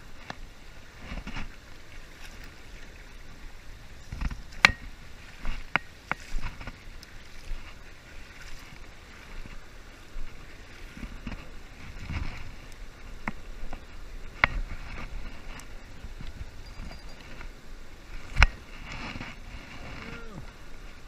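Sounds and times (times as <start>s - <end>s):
water rushing over a weir: 0.0s - 21.0s
wind rumble on microphone: 0.0s - 21.0s.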